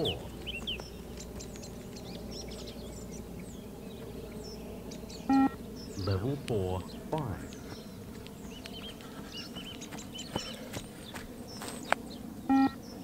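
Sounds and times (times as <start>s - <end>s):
low steady background hum: 0.0s - 13.0s
small birds chirping: 0.0s - 13.0s.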